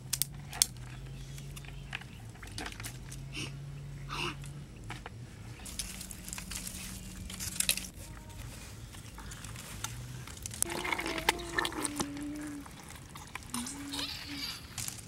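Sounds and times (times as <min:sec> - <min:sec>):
dry twigs crackling and snapping: 0:00.0 - 0:03.2, 0:04.9 - 0:13.9, 0:14.7 - 0:15.0.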